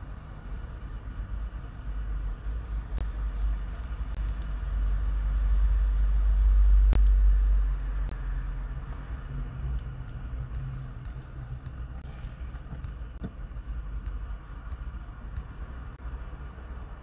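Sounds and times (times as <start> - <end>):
low steady hum: 0.0 - 17.0
deep low rumble: 2.0 - 16.1.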